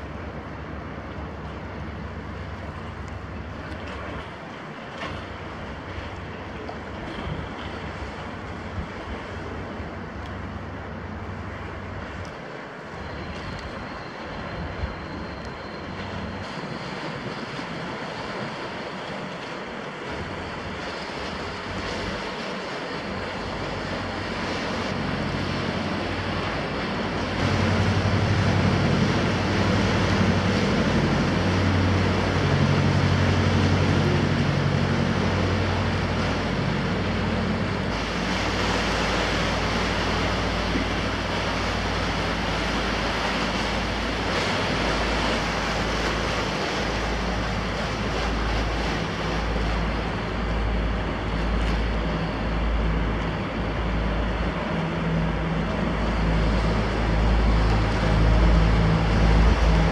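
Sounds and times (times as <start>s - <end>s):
boat engine hum: 0.0s - 59.9s
churned water rushing: 0.0s - 59.9s.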